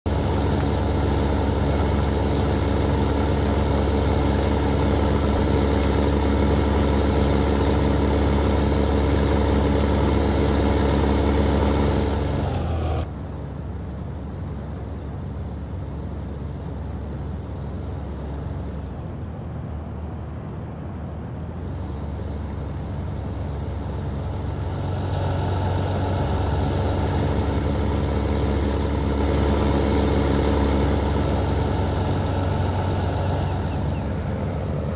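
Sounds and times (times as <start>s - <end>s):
tractor diesel engine running: 0.0s - 19.5s, 20.5s - 34.9s.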